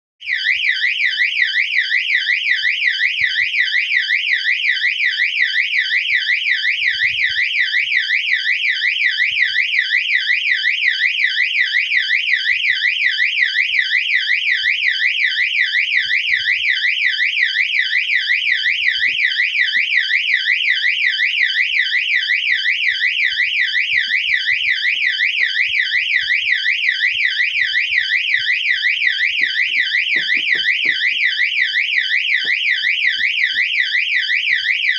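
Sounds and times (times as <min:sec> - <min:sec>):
electronic fire alarm warbling: 0:00.2 - 0:34.9.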